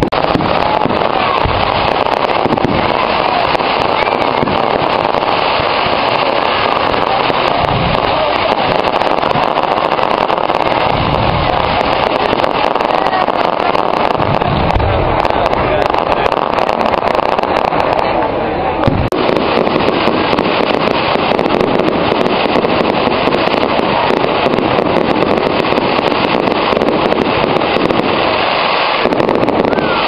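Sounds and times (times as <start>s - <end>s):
crowd noise: 0.0s - 30.0s
fireworks booms: 0.0s - 30.0s
fireworks crackling: 0.0s - 30.0s.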